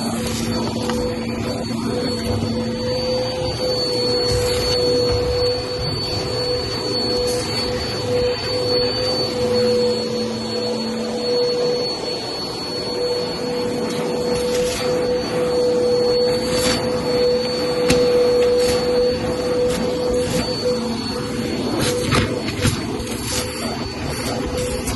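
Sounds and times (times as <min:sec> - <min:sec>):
vacuum cleaner running on carpet: 0:00.0 - 0:24.9.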